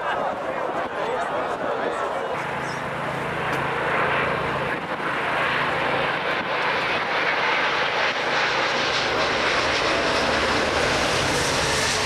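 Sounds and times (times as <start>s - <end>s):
jet engines passing overhead: 0.0s - 12.0s.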